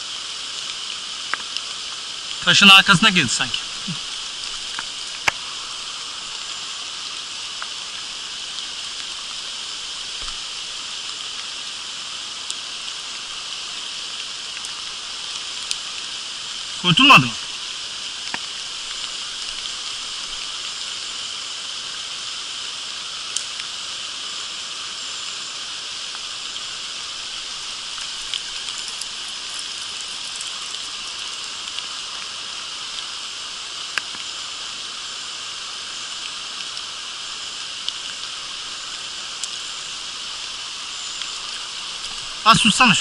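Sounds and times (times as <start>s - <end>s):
creek running over rocks: 0.0s - 43.0s.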